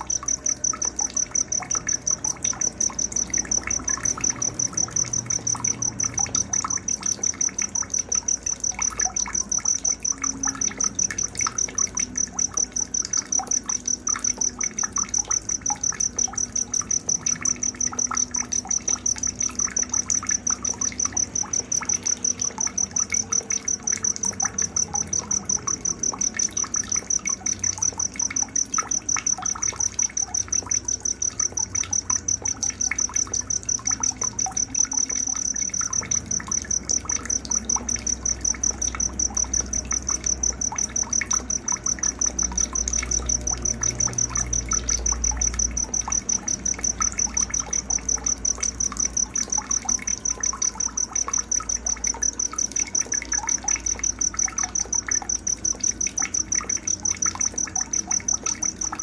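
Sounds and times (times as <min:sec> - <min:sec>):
insect chirping: 0:00.0 - 0:59.0
water trickling: 0:00.0 - 0:59.0.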